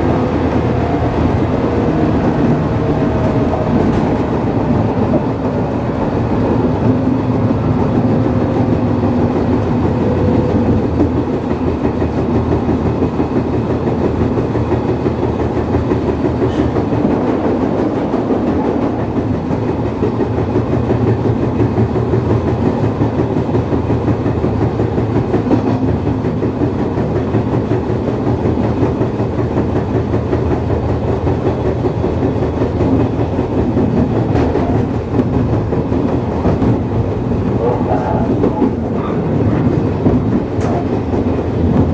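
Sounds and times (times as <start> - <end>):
electric train rumbling: 0.0 - 41.9
rail-joint clickety-clack: 0.0 - 41.9.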